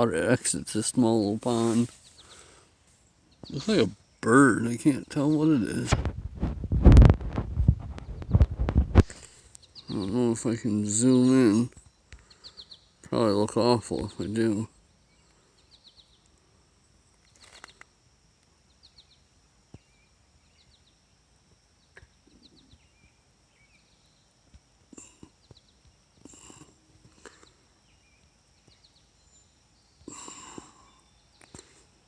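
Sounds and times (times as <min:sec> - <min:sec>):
small birds chirping: 0:00.0 - 0:06.0, 0:06.7 - 0:32.0.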